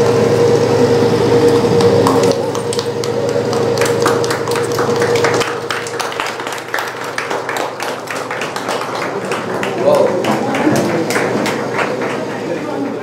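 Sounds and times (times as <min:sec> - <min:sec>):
steady hum: 0:00.0 - 0:13.0
people clapping: 0:01.4 - 0:13.0.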